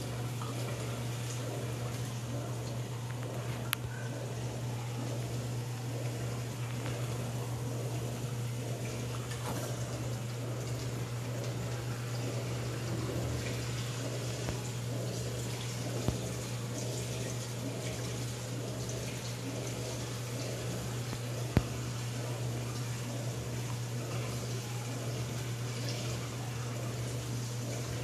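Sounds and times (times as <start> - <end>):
low pump hum: 0.0 - 28.0.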